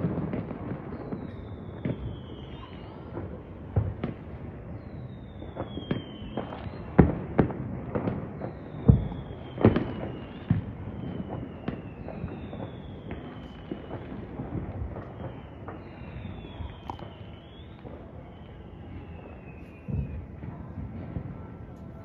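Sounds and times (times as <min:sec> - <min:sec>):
firework bangs and pops: 0:00.0 - 0:22.0
rumble of distant fireworks: 0:00.0 - 0:22.0.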